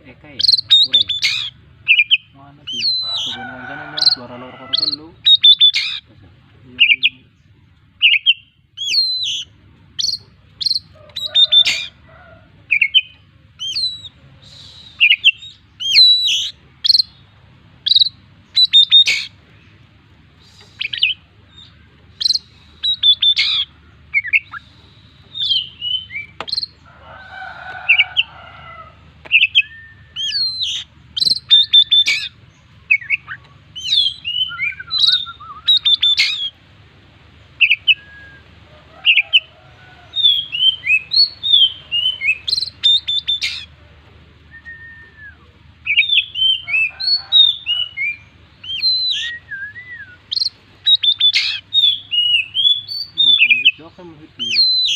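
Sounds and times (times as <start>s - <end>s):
songbird whistling and chirping: 0.4s - 6.0s, 8.0s - 12.0s, 12.7s - 17.2s, 17.8s - 19.3s, 20.4s - 26.9s, 29.3s - 36.6s, 37.6s - 39.5s, 40.1s - 43.7s, 44.4s - 53.8s, 54.4s - 54.9s.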